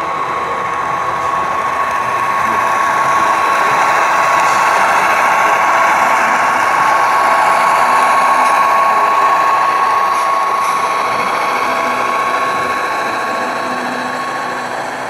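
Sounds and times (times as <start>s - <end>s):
model train motor whine: 0.0s - 15.0s
wheels rolling on track: 0.0s - 15.0s.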